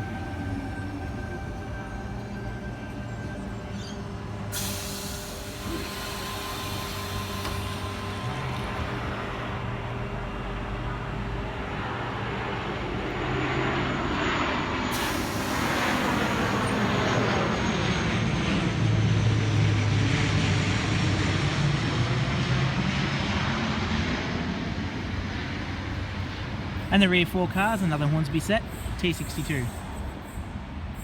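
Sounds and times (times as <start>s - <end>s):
electric train hum and rumble: 0.0s - 31.0s.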